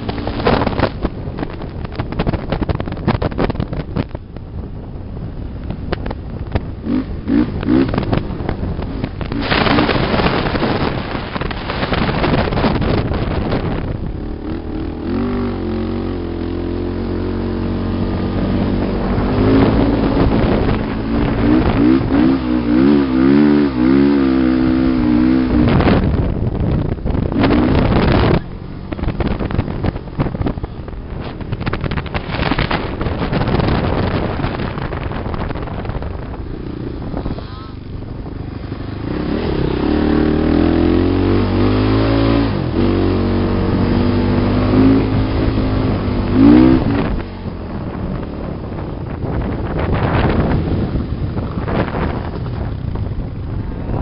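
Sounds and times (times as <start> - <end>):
dune vehicle engine revving: 0.0 - 54.0
wind on microphone: 0.0 - 54.0.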